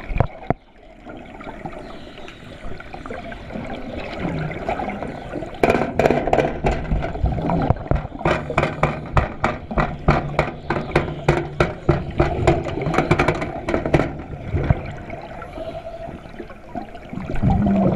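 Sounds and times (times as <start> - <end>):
underwater sloshing and gurgling: 0.0 - 17.9.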